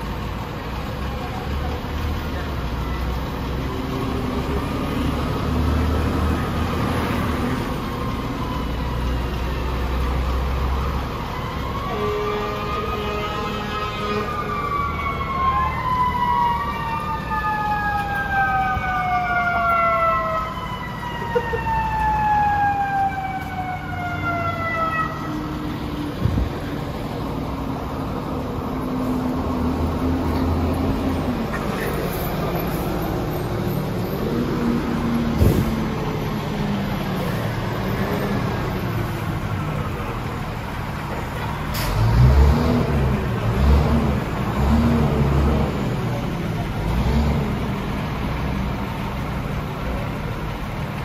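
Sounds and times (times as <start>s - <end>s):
diesel engine idling: 0.0s - 13.4s, 14.6s - 51.0s
fire truck sirens: 0.0s - 51.0s.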